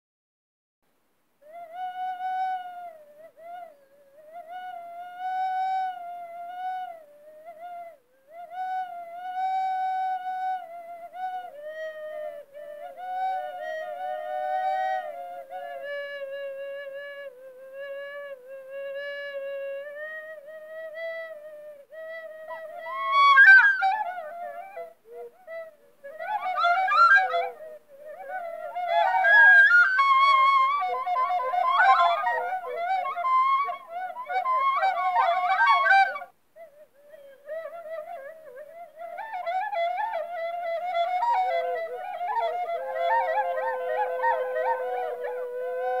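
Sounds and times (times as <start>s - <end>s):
solo flute playing: 1.4s - 46.0s.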